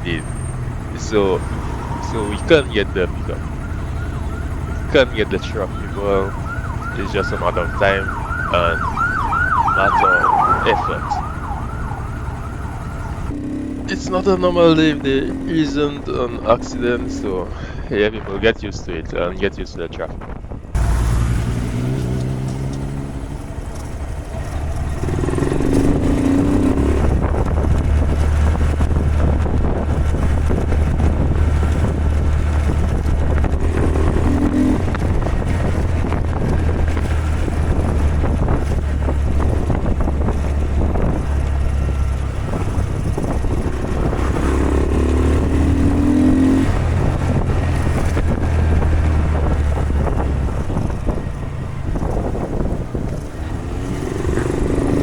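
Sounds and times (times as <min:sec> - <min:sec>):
motorcycle engine running: 0:00.0 - 0:17.7, 0:20.2 - 0:55.0.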